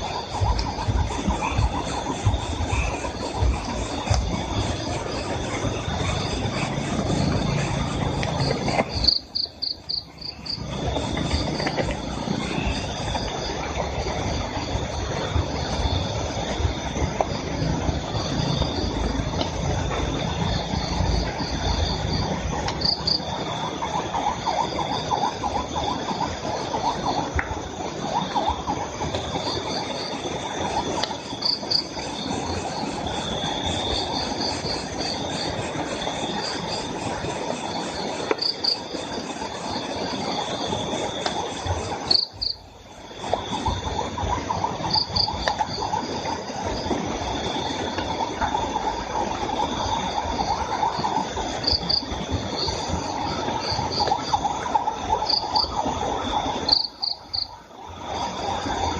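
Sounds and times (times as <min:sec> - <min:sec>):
crickets and insects calling: 0:00.0 - 0:58.9.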